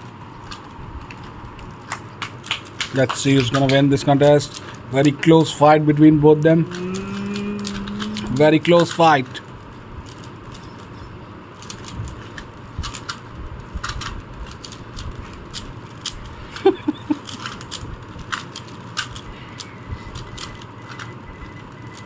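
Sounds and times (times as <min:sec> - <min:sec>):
puzzle cube layers clicking: 0:00.4 - 0:10.6, 0:11.6 - 0:22.0.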